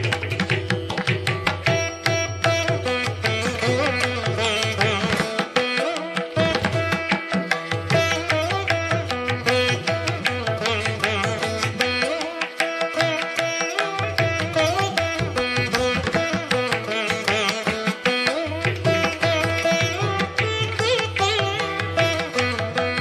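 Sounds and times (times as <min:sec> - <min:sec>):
instrumental music with beat: 0:00.0 - 0:23.0.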